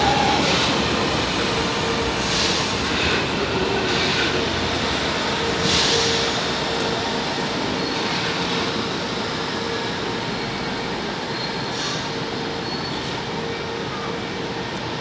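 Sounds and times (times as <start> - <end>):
train rumbling and humming: 0.0 - 15.0.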